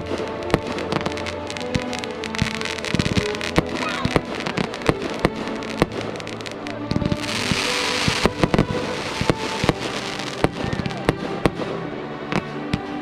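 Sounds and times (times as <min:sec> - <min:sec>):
fireworks bangs: 0:00.0 - 0:11.7
fireworks hissing crackle: 0:00.0 - 0:11.8.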